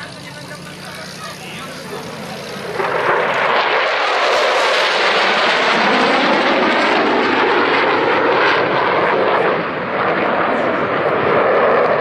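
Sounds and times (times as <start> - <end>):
jet roar flying past: 0.0 - 12.0.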